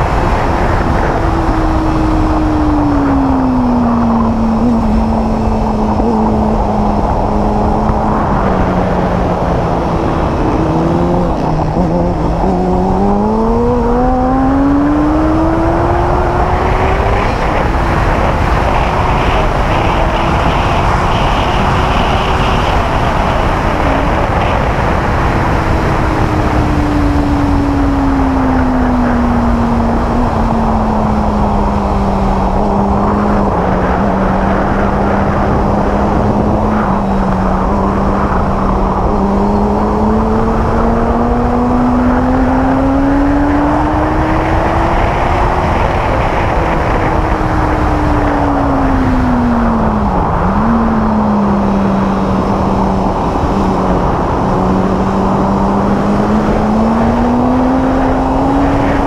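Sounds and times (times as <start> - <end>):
heavy wind noise: 0.0 - 59.0
motorcycle engine running hard: 0.0 - 59.0.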